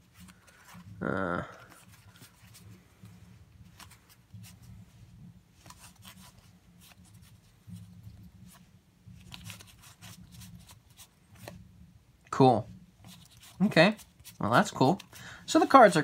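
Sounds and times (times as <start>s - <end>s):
cards rustling and clicking: 0.0s - 4.8s, 5.4s - 11.7s, 13.0s - 16.0s
low background hum: 0.0s - 16.0s.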